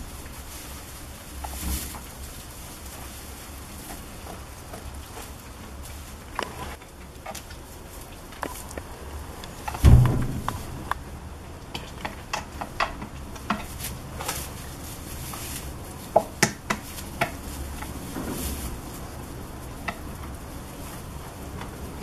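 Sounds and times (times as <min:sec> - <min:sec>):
goats knocking and clicking: 0:00.0 - 0:22.0.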